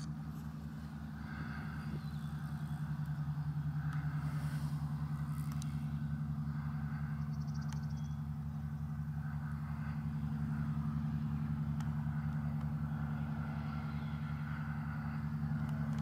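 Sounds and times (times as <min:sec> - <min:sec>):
propeller aircraft engines droning: 0:00.0 - 0:16.0.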